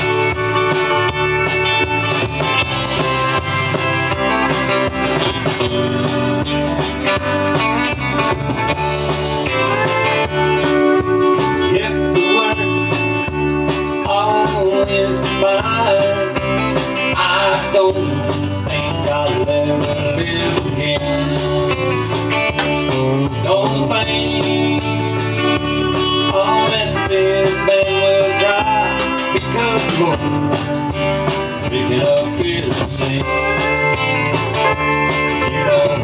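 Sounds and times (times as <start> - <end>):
bass line: 0.0 - 36.0
guitar: 0.0 - 36.0.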